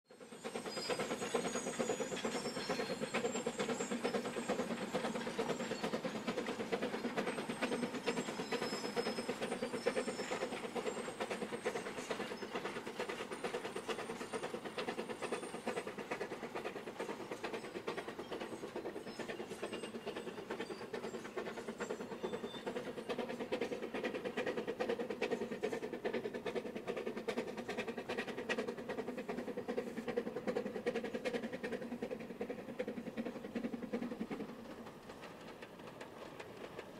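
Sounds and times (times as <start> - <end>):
steam locomotive exhaust beat: 0.1 - 36.9.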